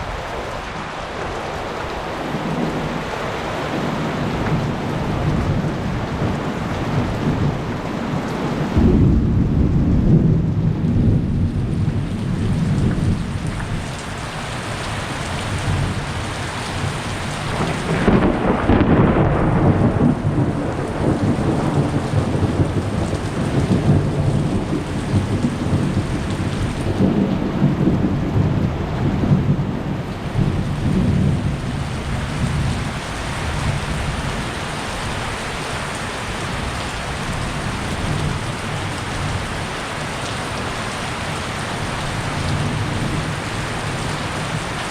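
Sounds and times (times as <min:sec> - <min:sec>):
heavy rain falling: 0:00.0 - 0:44.9
thunder rumbling: 0:00.0 - 0:44.9.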